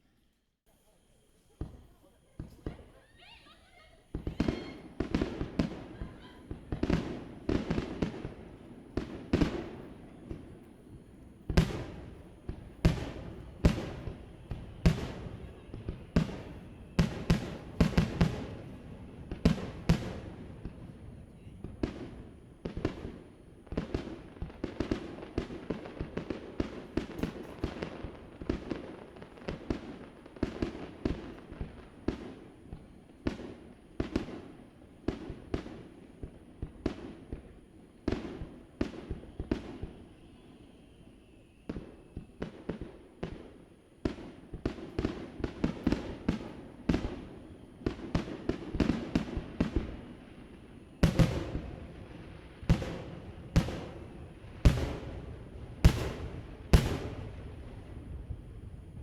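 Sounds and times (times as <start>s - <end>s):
fireworks bangs and booms: 1.5s - 59.0s.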